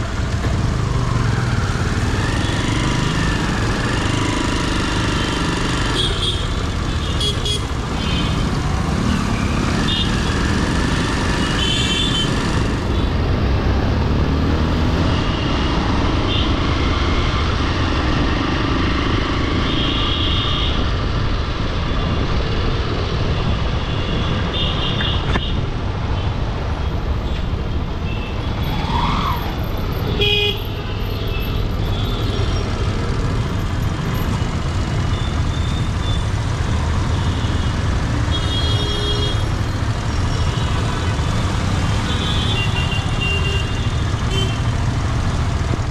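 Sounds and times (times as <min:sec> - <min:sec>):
engine and road rumble: 0:00.0 - 0:45.9.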